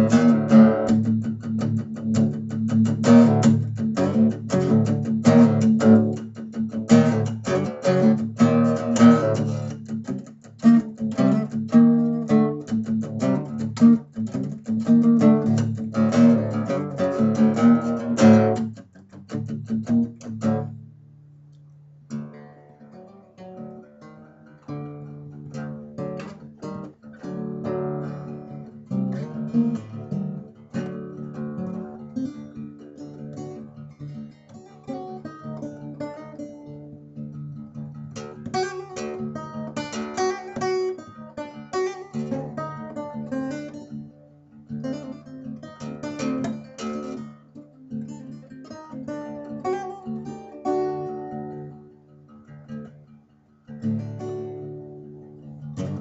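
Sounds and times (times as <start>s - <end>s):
acoustic guitar strumming and picking: 0.0s - 56.0s.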